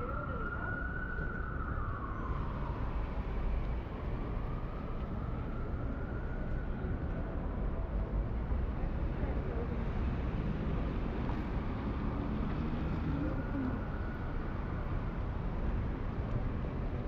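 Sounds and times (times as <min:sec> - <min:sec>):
emergency siren wailing: 0:00.0 - 0:08.5, 0:10.2 - 0:17.0
city traffic on wet street: 0:00.0 - 0:17.0.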